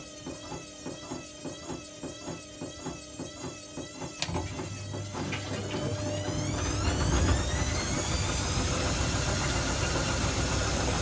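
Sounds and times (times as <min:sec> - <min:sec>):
motor hum with rising whine: 0:00.0 - 0:11.0
washing machine drum swishing: 0:00.1 - 0:11.0.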